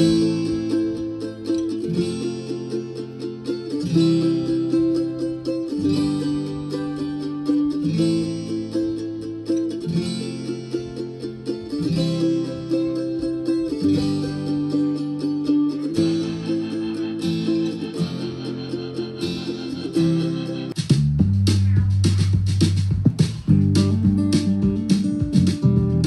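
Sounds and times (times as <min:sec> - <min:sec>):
guitar music with bass: 0:00.0 - 0:26.0.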